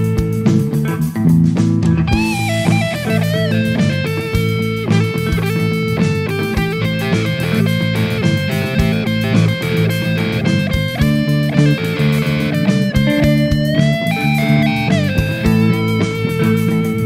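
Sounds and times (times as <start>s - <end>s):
music with electric guitar: 0.0s - 17.0s.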